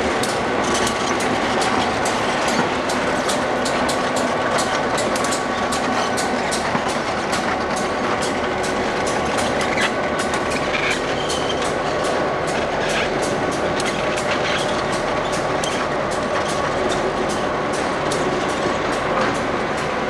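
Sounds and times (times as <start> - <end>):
diesel locomotive engines running: 0.0 - 20.0
train wheels clattering over rail joints: 0.0 - 20.0.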